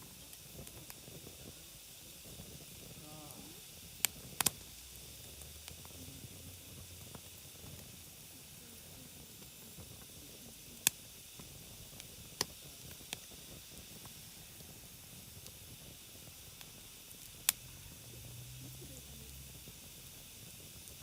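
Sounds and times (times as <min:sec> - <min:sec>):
campfire crackling pops: 0:00.0 - 0:21.0
campfire hissing: 0:00.0 - 0:21.0.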